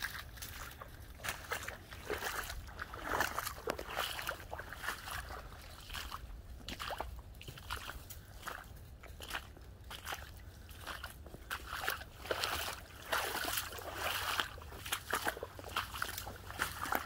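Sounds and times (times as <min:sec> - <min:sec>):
dog splashing through water: 0:00.0 - 0:08.6, 0:09.9 - 0:17.0
squelching footsteps on wet leaves: 0:00.0 - 0:17.0.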